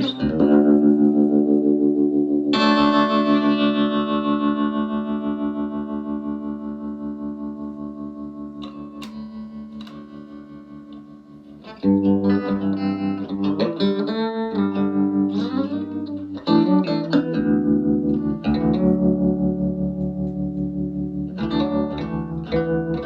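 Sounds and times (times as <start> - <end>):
electric guitar chords with tremolo: 0.0 - 23.0.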